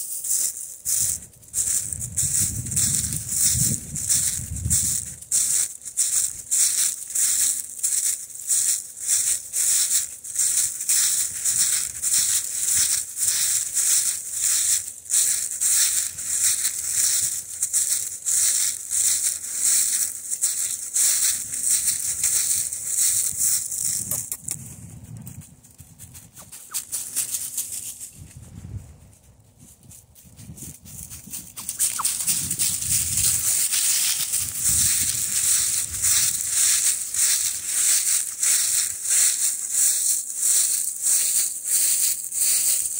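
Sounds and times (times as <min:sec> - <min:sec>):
footsteps crunching through dry leaves: 0:00.0 - 0:42.9
leaves rustling: 0:00.0 - 0:42.9.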